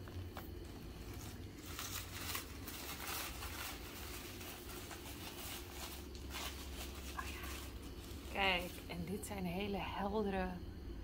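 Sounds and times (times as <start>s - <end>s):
packing paper rustling and crinkling: 0.0s - 9.4s.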